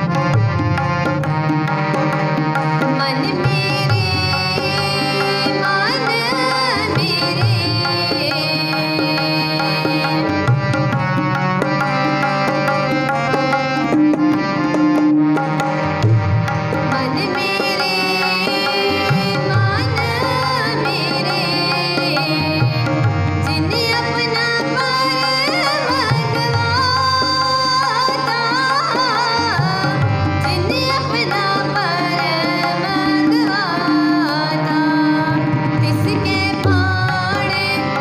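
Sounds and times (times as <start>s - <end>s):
harmoniums playing chords: 0.0s - 38.0s
tabla rhythm: 0.0s - 38.0s.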